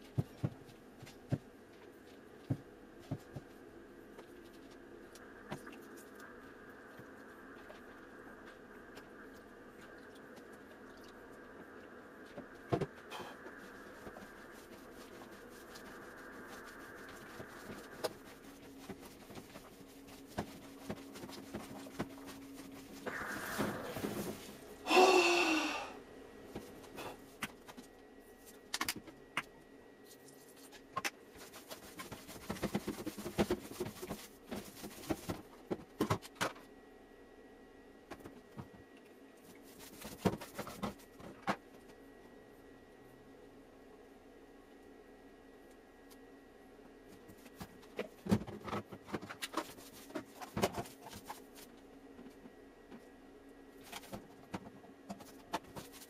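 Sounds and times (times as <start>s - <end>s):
faint hum: 0.0s - 56.0s.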